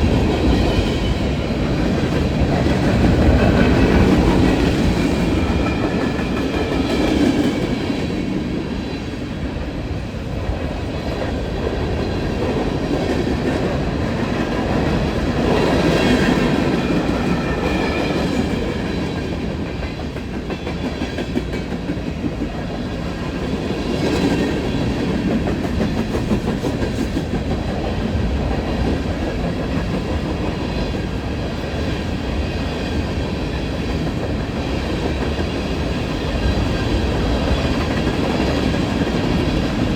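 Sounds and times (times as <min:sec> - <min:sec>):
clickety-clack over rail joints: 0:00.0 - 0:39.9
steel wheels rumbling on rail: 0:00.0 - 0:39.9.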